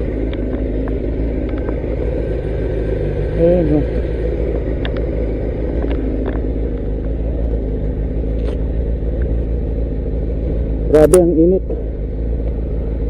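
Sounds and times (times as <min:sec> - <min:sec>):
low rumble of wind: 0:00.0 - 0:13.0
motorcycle engine running: 0:00.0 - 0:13.0.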